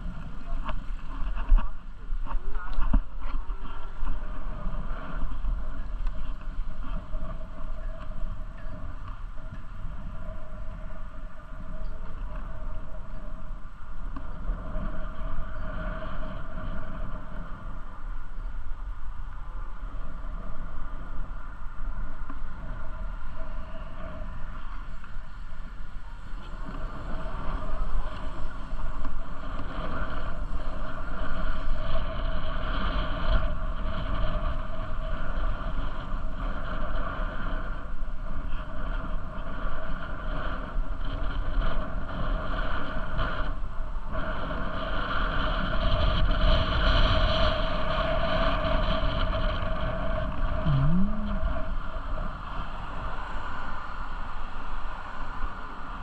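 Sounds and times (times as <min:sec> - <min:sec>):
bicycle rolling: 0:00.0 - 0:56.0
wind on microphone: 0:00.0 - 0:56.0.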